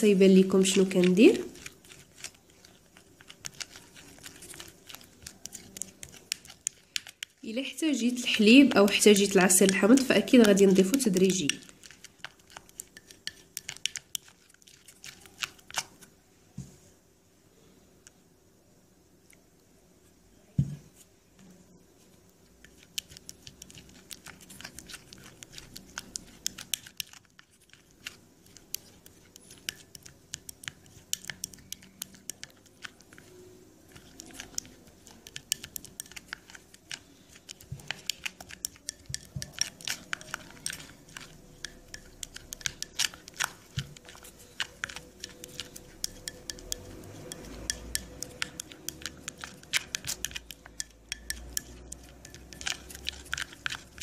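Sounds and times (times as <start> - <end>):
spoon scraping ceramic bowl: 0.6 - 16.1, 22.6 - 54.0.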